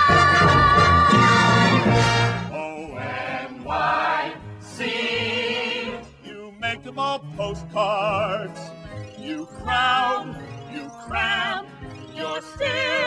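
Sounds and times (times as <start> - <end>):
people singing with vibrato: 0.0 - 6.5, 7.4 - 13.0
instrumental accompaniment: 0.0 - 13.0.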